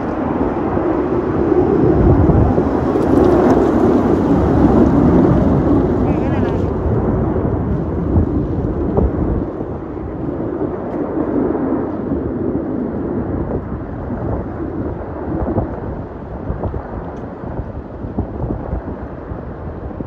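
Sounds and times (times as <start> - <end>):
aircraft engine rumble: 0.0 - 20.0.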